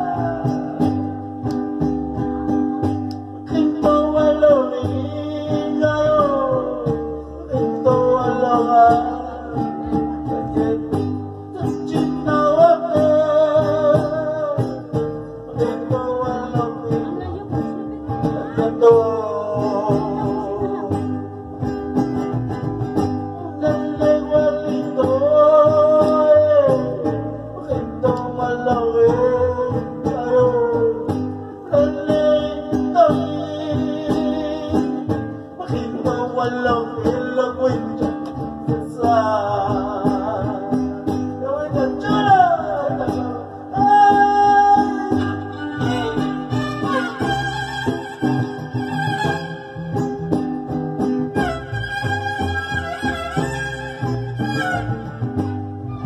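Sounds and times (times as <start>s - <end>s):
man singing: 0.0s - 2.6s, 3.4s - 50.4s
acoustic guitars strumming: 0.0s - 56.0s.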